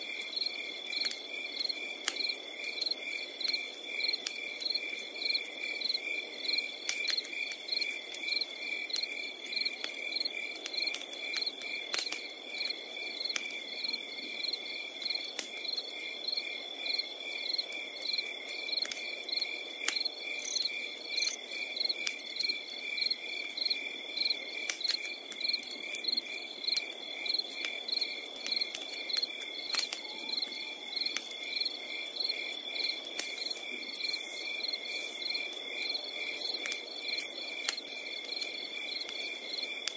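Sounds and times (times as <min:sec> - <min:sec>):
continuous high insect trill: 0:00.0 - 0:39.9
crickets chirping: 0:00.0 - 0:39.9.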